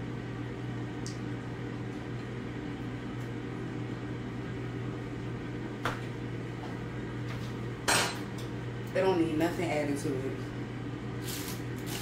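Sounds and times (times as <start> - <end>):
appliance motor hum: 0.0 - 12.0.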